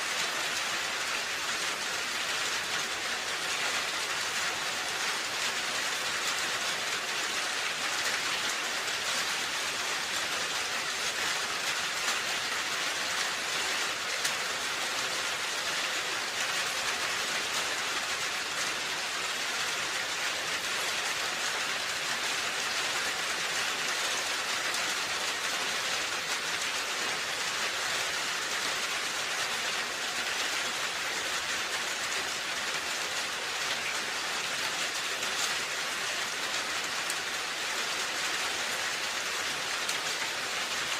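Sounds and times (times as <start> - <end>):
rain falling on a roof: 0.0 - 40.9.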